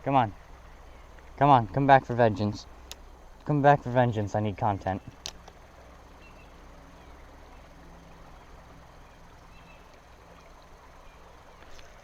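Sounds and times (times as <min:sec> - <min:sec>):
river water running: 0:00.0 - 0:12.0.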